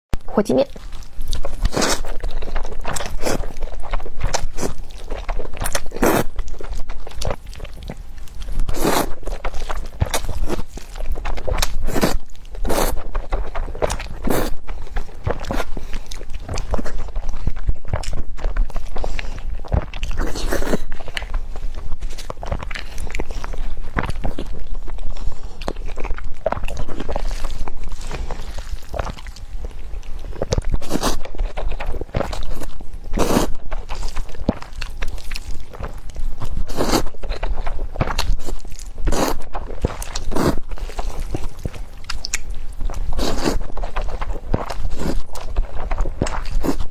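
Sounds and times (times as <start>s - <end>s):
chewing: 0.6s - 46.9s
crunchy eating bites: 0.8s - 46.9s.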